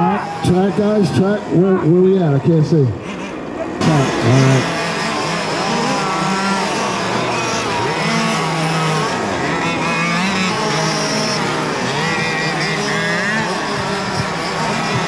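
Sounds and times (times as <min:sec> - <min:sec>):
rc car engines racing: 0:00.0 - 0:15.0.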